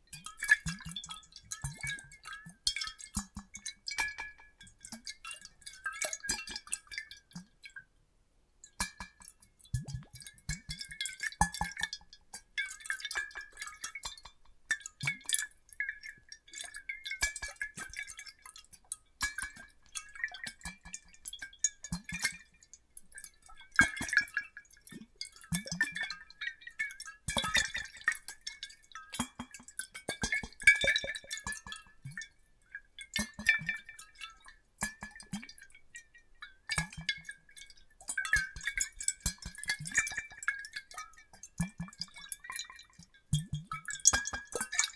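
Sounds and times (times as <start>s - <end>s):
water plops and drips: 0.1s - 7.8s, 8.7s - 44.9s.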